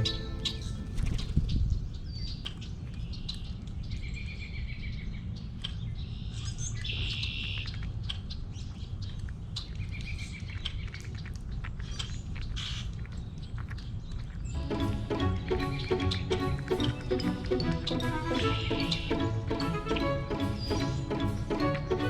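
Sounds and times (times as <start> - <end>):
small birds chirping: 0.0 - 4.6, 5.9 - 22.0.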